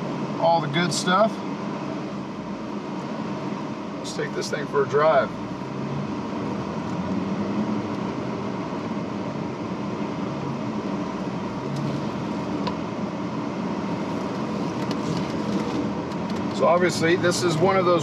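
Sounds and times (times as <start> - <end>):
car engine running: 0.0 - 18.0
road noise inside car: 0.0 - 18.0.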